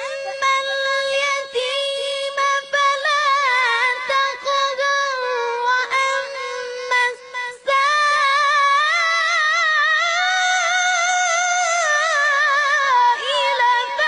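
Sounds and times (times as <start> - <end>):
boy chanting recitation: 0.0 - 14.0.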